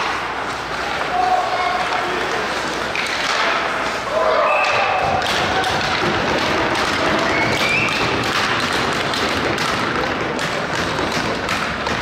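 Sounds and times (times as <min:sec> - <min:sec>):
crowd noise: 0:00.0 - 0:12.0
hockey sticks and puck knocking: 0:00.0 - 0:12.0
skates on ice: 0:00.0 - 0:12.0.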